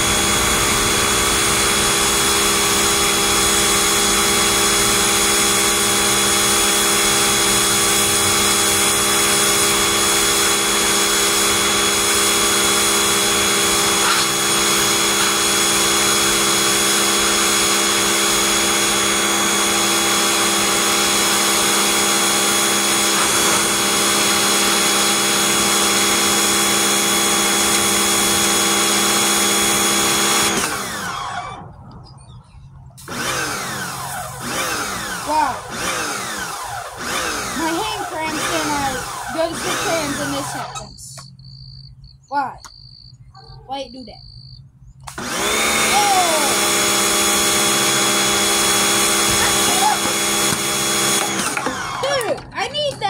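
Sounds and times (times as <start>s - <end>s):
pressure washer spraying: 0.0s - 30.8s, 33.0s - 40.9s, 45.1s - 52.2s.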